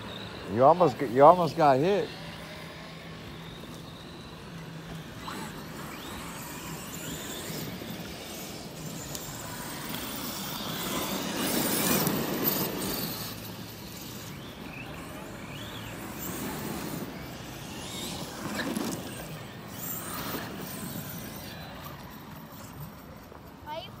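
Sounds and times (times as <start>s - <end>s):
electric motor whining: 0.0s - 23.2s
tyres on grass and dirt: 0.0s - 24.0s.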